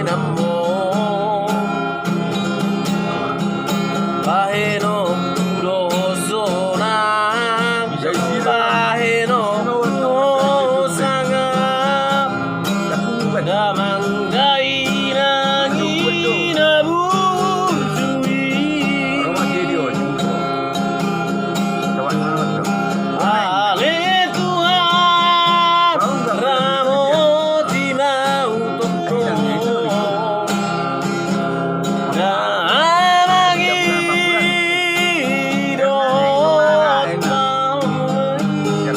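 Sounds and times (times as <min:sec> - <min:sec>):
person singing with vibrato: 0:00.0 - 0:02.1, 0:04.1 - 0:38.9
strummed acoustic guitar: 0:00.0 - 0:38.9.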